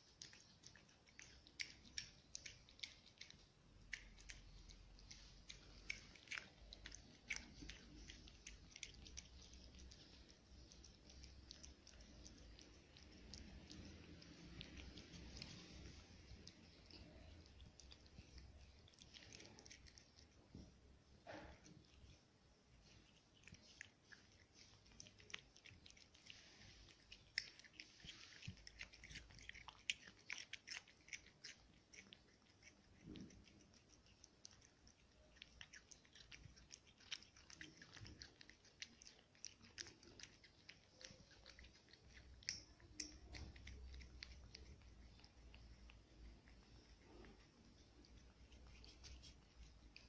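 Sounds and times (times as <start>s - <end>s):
cat chewing and lip-smacking: 0.0s - 50.0s.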